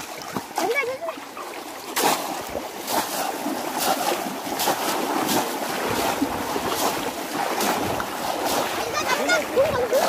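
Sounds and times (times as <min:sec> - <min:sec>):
fish traps splashing into water: 0:00.0 - 0:10.0
water sloshing: 0:00.0 - 0:10.0.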